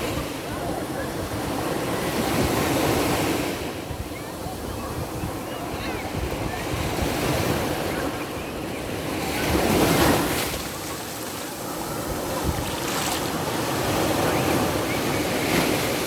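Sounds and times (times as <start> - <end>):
waves washing onto shore: 0.0 - 16.0
wind buffeting microphone: 0.0 - 16.0.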